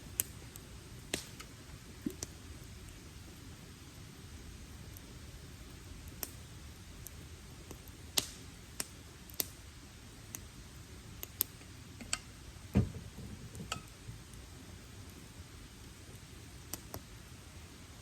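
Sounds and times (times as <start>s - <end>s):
background hiss: 0.0s - 18.0s
campfire crackling: 0.0s - 18.0s.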